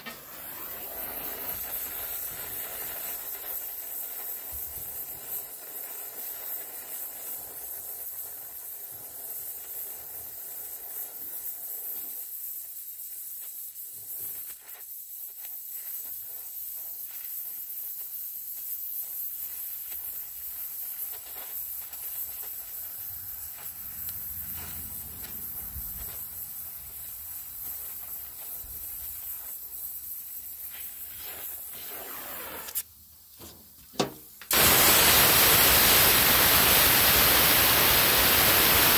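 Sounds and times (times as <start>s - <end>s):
welding torch flame hissing: 0.0s - 38.9s.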